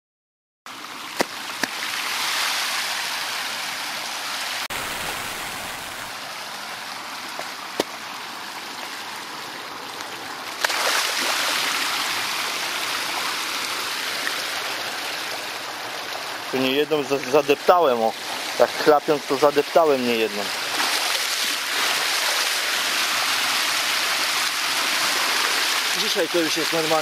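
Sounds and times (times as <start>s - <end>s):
stream running over gravel: 0.7s - 27.0s.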